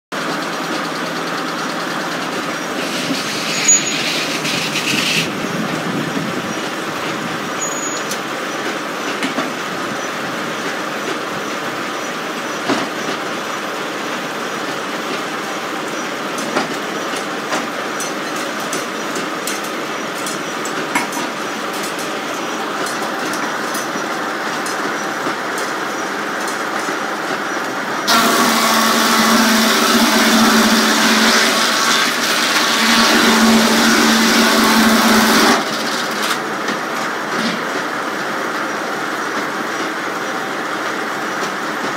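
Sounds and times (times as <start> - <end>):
circular sawmill running: 0.2 - 41.9.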